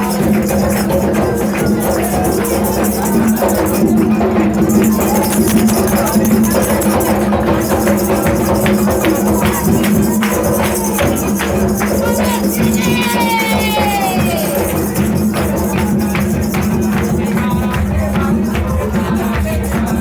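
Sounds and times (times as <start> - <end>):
shaker-like percussion: 0.0 - 20.0.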